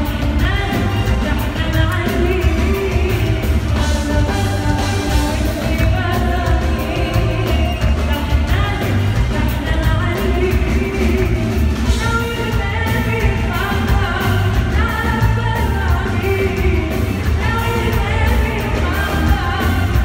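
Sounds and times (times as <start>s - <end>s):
live band playing: 0.0s - 20.0s
women singing: 0.0s - 20.0s.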